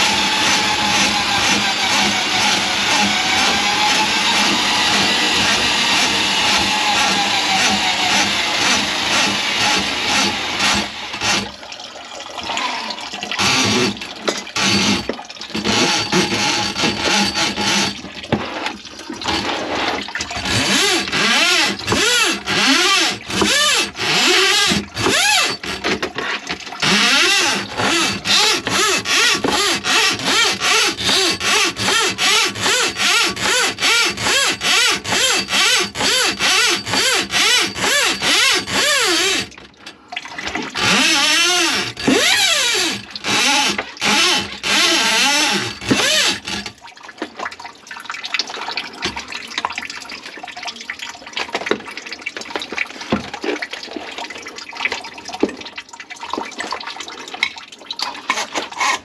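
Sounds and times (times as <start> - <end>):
water sloshing in sink drain: 0.0 - 37.0, 39.4 - 40.9, 41.7 - 44.7, 45.3 - 59.0.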